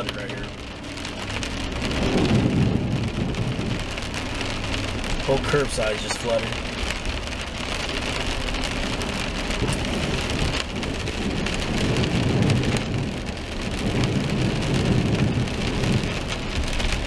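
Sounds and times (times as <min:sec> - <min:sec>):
heavy rain pattering on car: 0:00.0 - 0:17.0
low rumble: 0:00.0 - 0:17.0.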